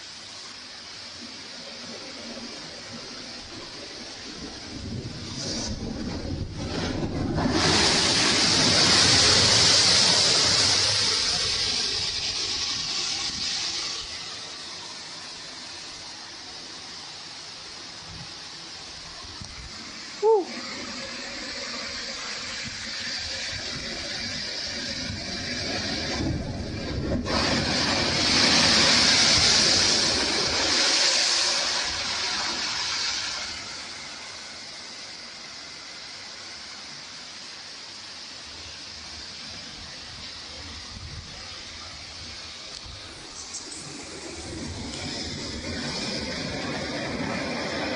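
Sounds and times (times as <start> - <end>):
strong gust of wind: 1.2 - 35.2, 39.2 - 47.9.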